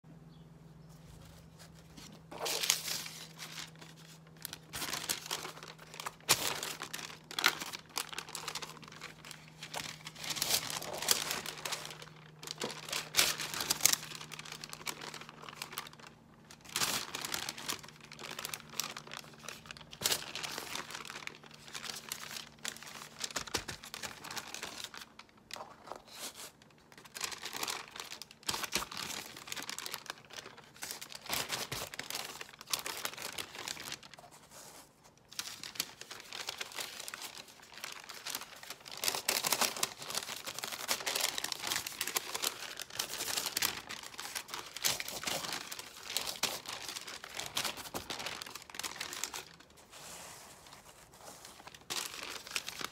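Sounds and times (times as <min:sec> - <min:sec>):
paper rustling and crinkling: 0:00.9 - 0:52.9.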